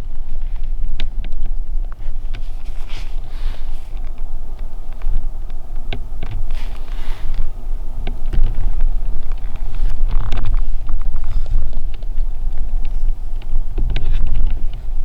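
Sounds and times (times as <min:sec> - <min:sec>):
low rumble on microphone: 0:00.0 - 0:15.0
rustling: 0:00.0 - 0:15.0.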